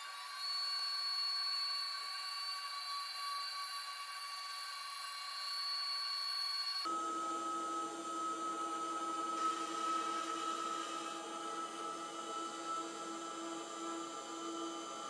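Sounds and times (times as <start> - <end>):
high-pitched spindle whine: 0.0 - 15.0.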